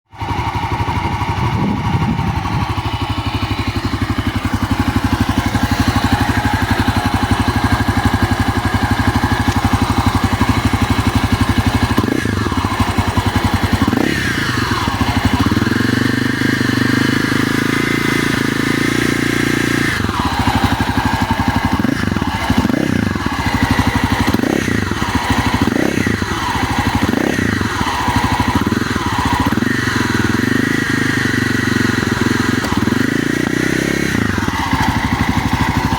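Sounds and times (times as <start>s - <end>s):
motorcycle engine idling and revving: 0.0s - 35.9s
engine squeal: 0.1s - 18.8s, 19.5s - 35.9s.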